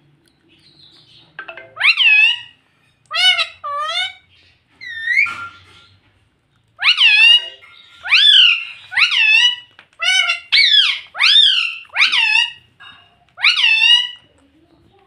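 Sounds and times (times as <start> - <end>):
parakeet calling: 0.6 - 5.9, 6.8 - 12.8, 13.4 - 14.3.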